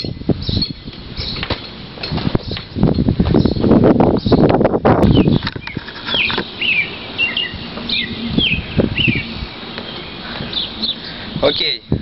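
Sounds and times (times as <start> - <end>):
bird chirping: 0.0 - 1.6, 2.4 - 12.0.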